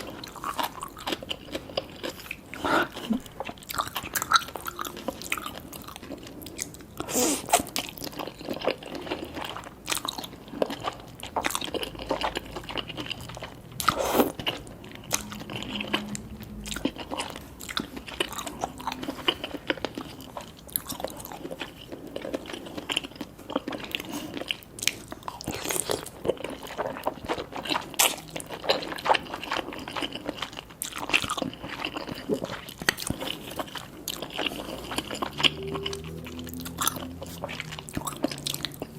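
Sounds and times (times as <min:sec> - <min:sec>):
chewing and biting noodles: 0:00.0 - 0:38.9.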